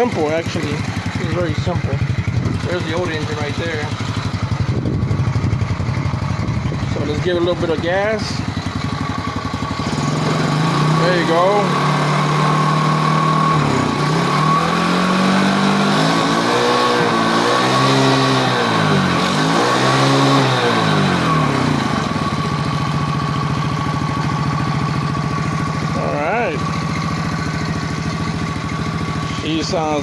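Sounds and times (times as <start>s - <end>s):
quad engine revving and idling: 0.0s - 30.0s.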